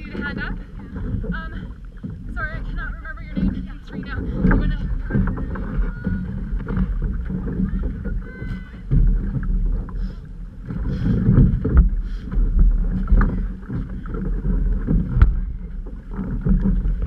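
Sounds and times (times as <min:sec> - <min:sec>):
water splashing along hull: 0:00.0 - 0:17.0
wind buffeting microphone: 0:00.0 - 0:17.0.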